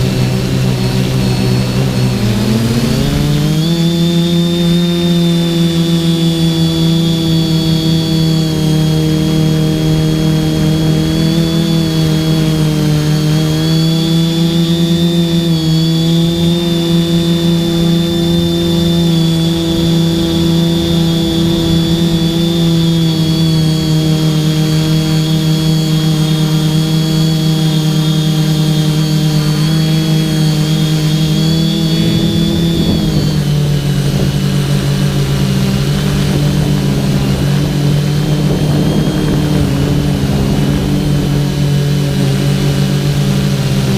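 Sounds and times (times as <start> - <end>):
quadcopter propellers buzzing: 0.0 - 43.9.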